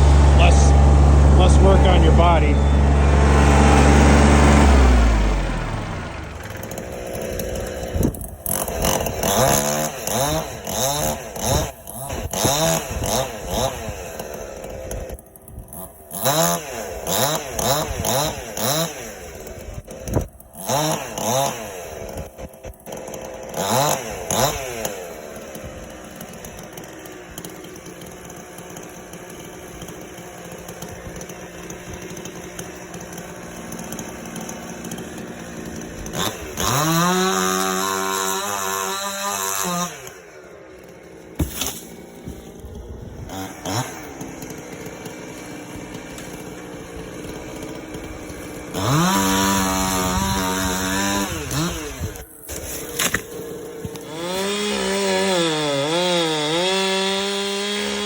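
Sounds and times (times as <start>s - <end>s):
chainsaw revving: 0.0s - 58.0s
chain cutting wood: 6.2s - 58.0s.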